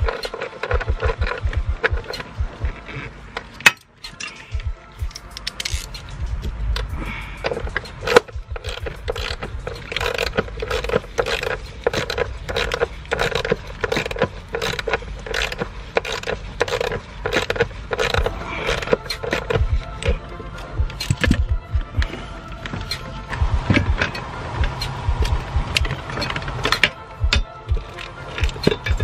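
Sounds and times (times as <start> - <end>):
ratchet wrench clicking: 0.0 - 22.2, 22.8 - 29.0
metal scraping: 0.0 - 29.0.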